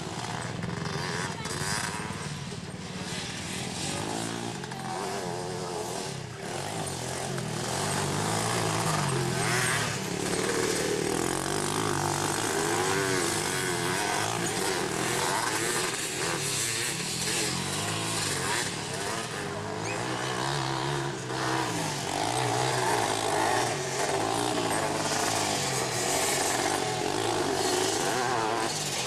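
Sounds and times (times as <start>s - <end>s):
small off-road engines revving: 0.0s - 29.0s.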